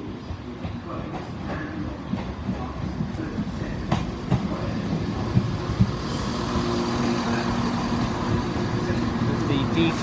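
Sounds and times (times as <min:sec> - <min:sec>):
train engine hum with hiss: 0:00.0 - 0:10.0.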